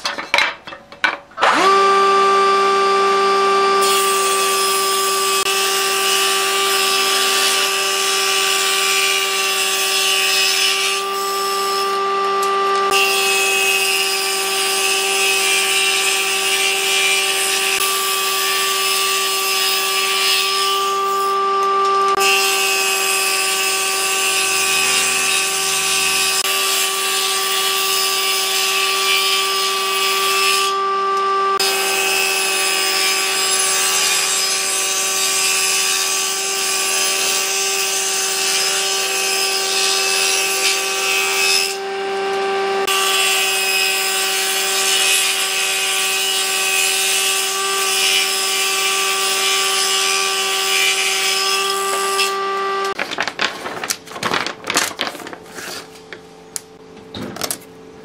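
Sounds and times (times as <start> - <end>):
jointer-planer motor whine: 1.4 - 38.0, 38.7 - 44.8, 45.4 - 53.0.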